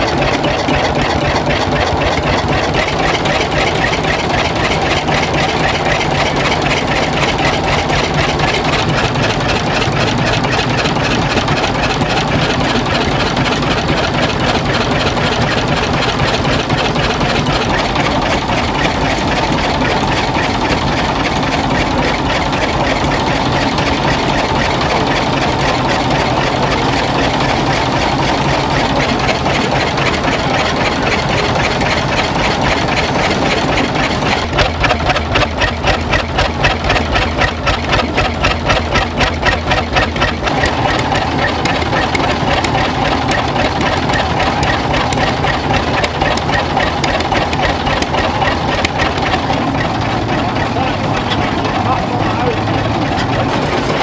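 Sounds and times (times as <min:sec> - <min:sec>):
stationary diesel engine running: 0:00.0 - 0:54.0.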